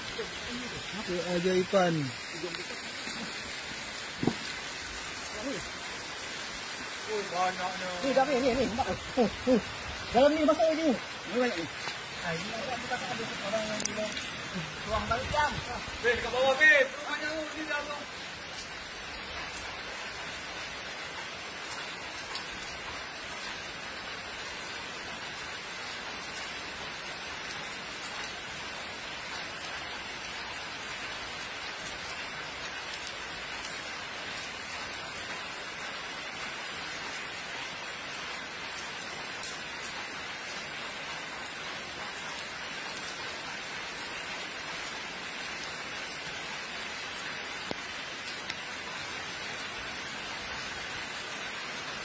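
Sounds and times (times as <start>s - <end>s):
rain on wet pavement: 0.0s - 52.0s.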